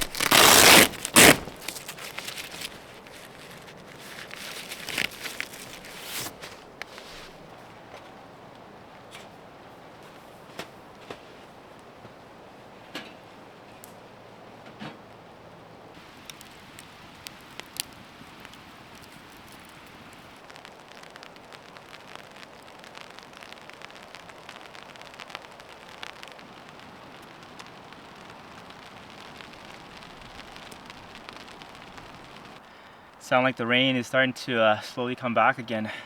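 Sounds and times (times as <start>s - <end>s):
raindrops ticking: 0.0s - 9.3s, 15.1s - 35.3s
light rain hissing: 0.0s - 36.0s.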